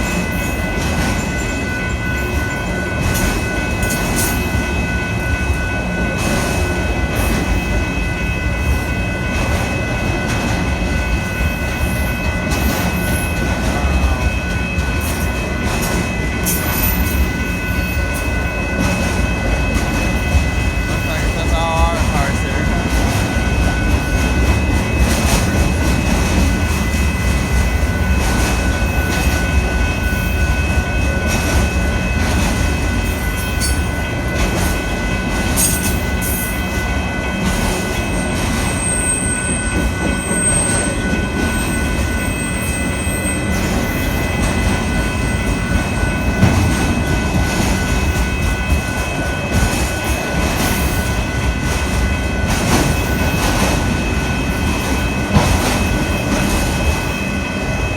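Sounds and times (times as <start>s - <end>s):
freight train rumbling: 0.0s - 57.9s.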